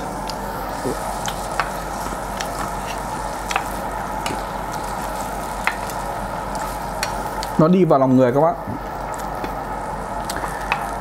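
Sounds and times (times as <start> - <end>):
meat sizzling on a grill plate: 0.0 - 11.0.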